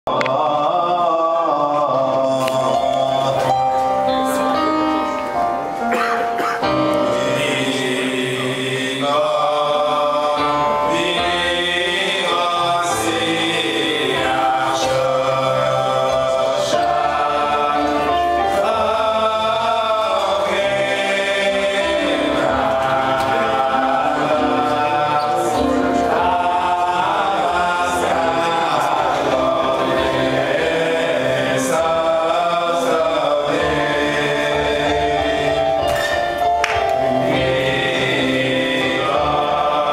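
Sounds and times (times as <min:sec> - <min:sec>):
men singing: 0:00.1 - 0:03.8, 0:06.8 - 0:39.9
amplified lead voice singing: 0:00.1 - 0:05.2, 0:05.9 - 0:39.9.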